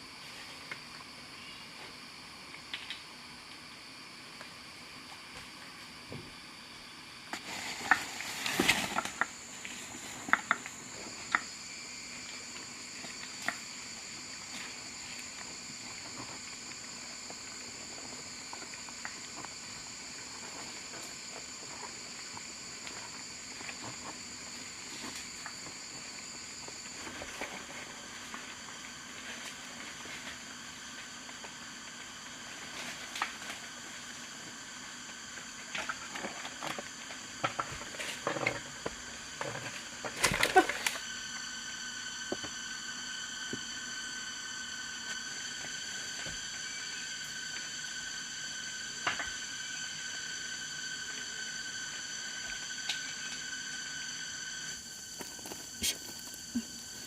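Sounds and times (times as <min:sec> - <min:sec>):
forest insects droning: 0:00.0 - 0:57.0.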